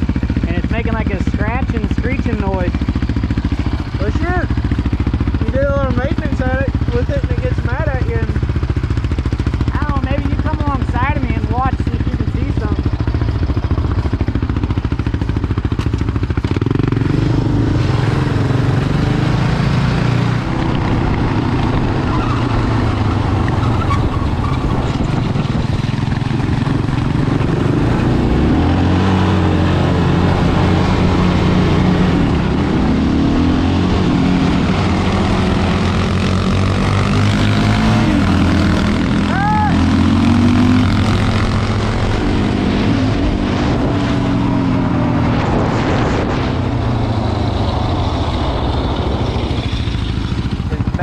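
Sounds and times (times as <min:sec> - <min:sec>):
atv engines running: 0:00.0 - 0:51.0.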